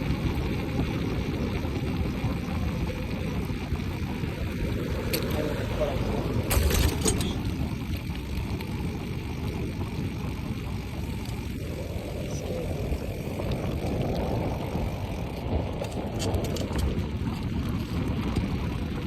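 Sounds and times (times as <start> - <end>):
bicycle clicks and rattles: 0.0 - 19.0.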